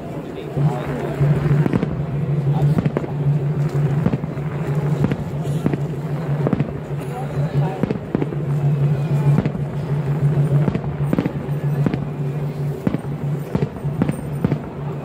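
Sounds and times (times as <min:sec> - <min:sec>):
steady low drone: 0:00.0 - 0:15.0.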